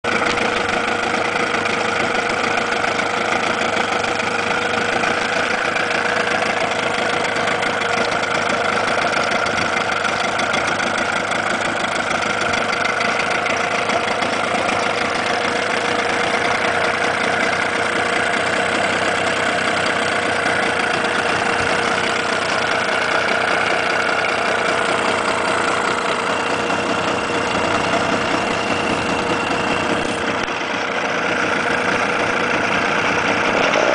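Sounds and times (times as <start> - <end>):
outboard motor idling: 0.0 - 33.9.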